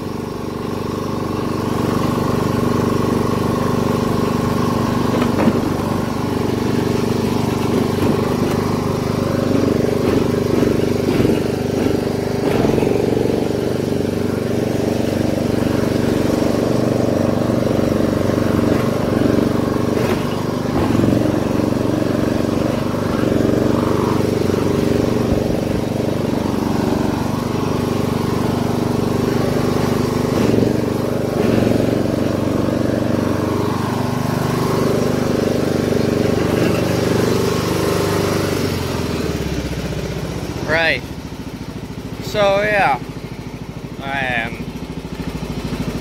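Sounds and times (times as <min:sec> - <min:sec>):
ride-on mower engine running: 0:00.0 - 0:46.0.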